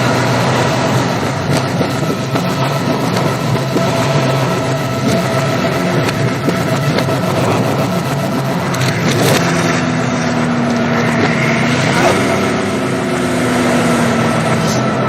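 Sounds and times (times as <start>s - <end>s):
reversed car engines: 0.0s - 15.0s
road noise: 0.0s - 15.0s.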